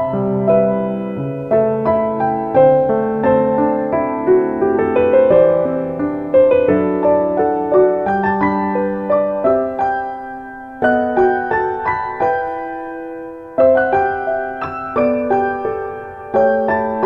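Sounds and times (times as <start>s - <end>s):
gentle piano notes and chords: 0.0s - 17.0s.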